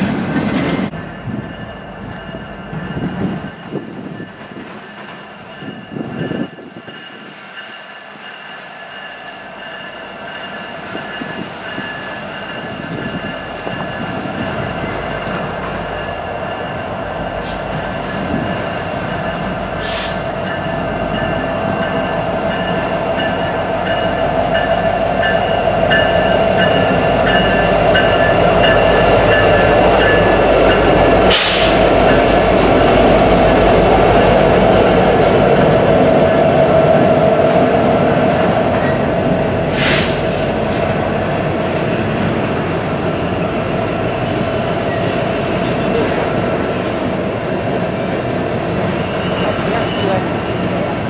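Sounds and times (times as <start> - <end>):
clatter of train cars: 0.0 - 8.4, 10.4 - 51.0
train wheels squealing on rail: 0.8 - 51.0.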